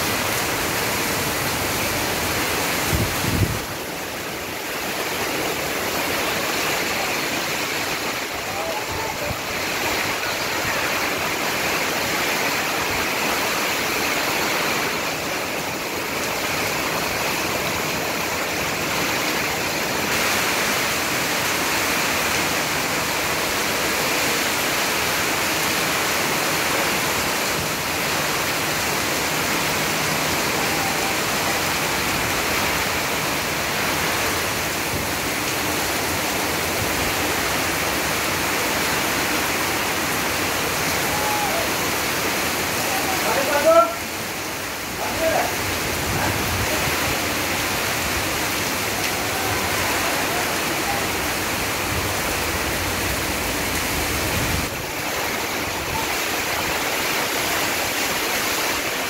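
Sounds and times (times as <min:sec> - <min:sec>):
heavy rain on tin roofs: 0:00.0 - 0:59.0
runoff pouring off roof: 0:00.0 - 0:59.0.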